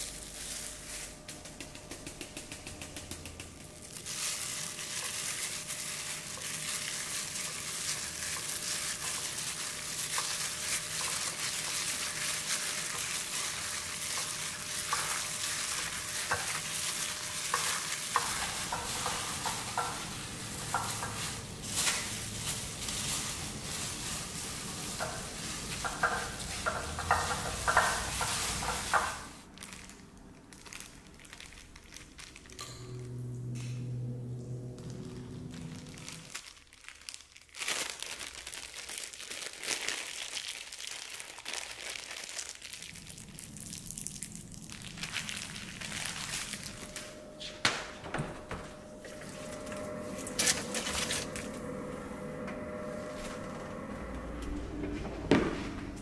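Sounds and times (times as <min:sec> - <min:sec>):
plastic bag crinkling: 0:00.0 - 0:32.7, 0:34.9 - 0:47.6.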